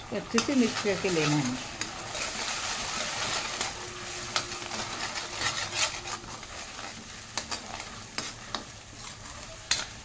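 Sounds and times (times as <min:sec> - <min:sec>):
paste sizzling in oil: 0:00.0 - 0:10.0
metal spoon scraping pan: 0:00.3 - 0:10.0.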